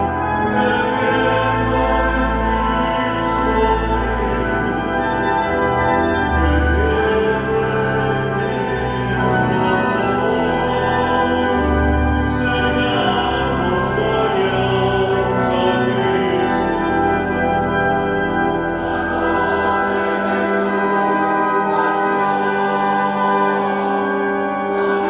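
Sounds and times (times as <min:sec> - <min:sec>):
choir singing a hymn: 0:00.0 - 0:25.0
pipe organ chords: 0:00.0 - 0:25.0.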